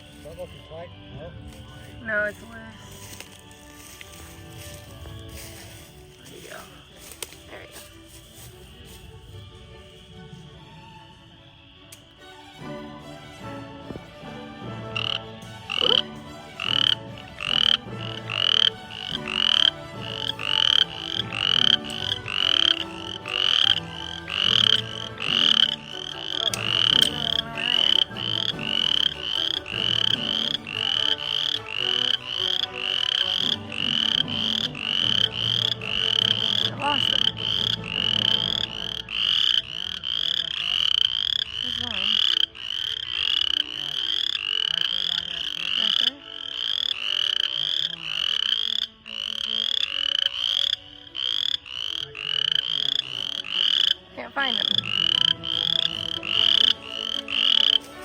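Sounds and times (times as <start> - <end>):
frogs calling: 0.0 - 9.2, 10.8 - 12.8, 13.4 - 58.0.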